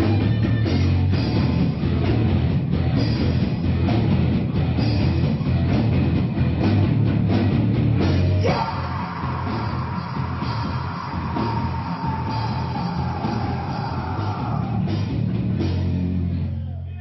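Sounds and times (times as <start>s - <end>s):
rock band playing live: 0.0s - 16.6s.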